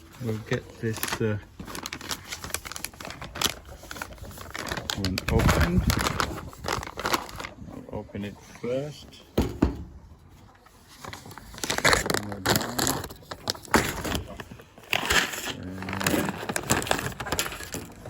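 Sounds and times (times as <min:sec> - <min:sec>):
package crinkling: 0:00.0 - 0:07.6, 0:10.9 - 0:18.0.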